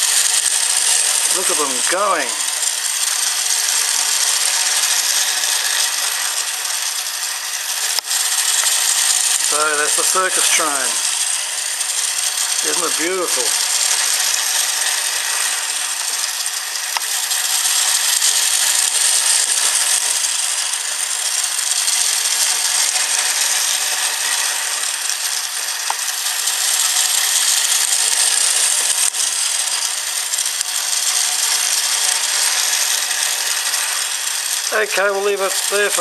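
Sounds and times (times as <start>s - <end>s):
toy train motor whirring: 0.0s - 36.0s.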